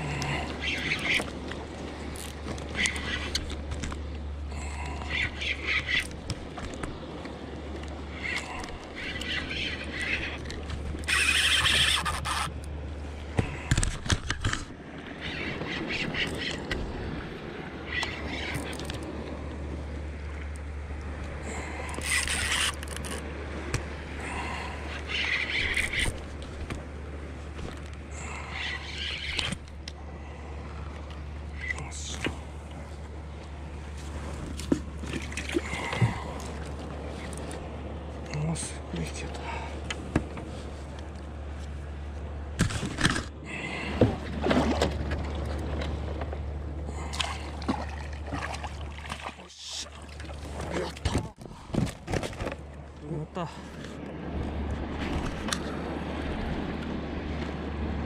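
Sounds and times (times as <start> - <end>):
water splashing and sloshing: 0.0 - 58.0.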